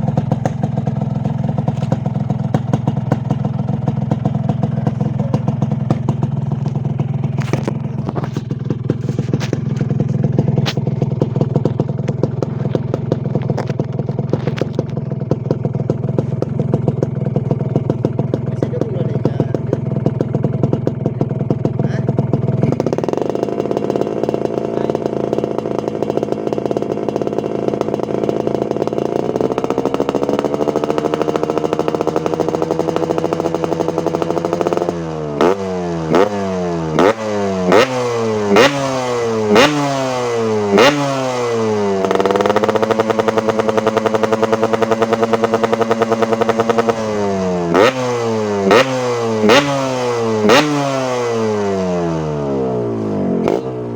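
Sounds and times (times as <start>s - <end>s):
two-stroke motorcycle engine revving: 0.0s - 53.9s.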